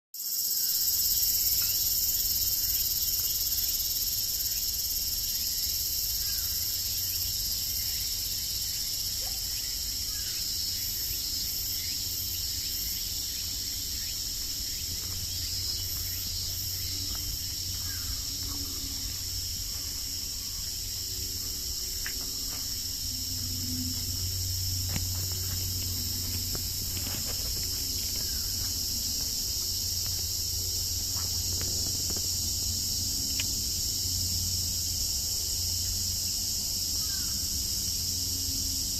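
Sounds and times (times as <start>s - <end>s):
insects chirping: 0.2s - 38.9s.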